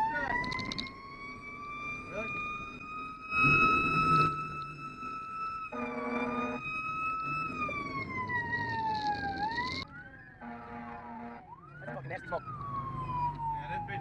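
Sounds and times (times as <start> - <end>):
fire engine siren: 0.0 - 14.0
wailing siren: 0.0 - 14.0.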